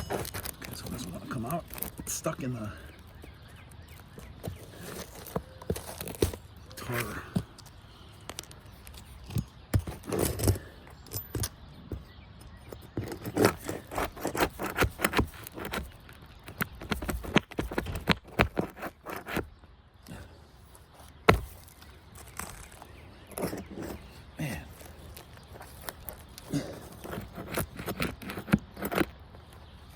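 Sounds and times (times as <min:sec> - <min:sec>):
metal tool scraping under shingle: 0:00.0 - 0:29.9.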